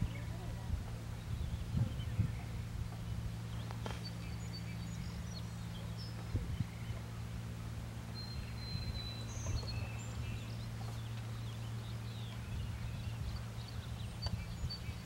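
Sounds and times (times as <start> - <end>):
steady low hum: 0.0 - 15.0
birds chirping and whistling: 1.0 - 7.3, 8.0 - 15.0.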